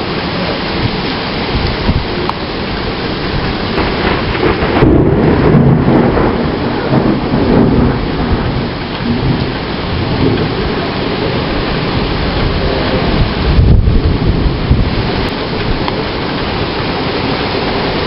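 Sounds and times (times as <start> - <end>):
torrential rain: 0.0 - 18.0
thunder rolling: 0.7 - 18.0.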